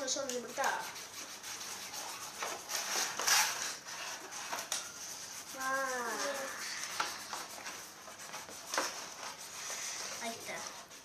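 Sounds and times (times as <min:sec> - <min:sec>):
cardboard and paper scraping: 0:00.0 - 0:11.0.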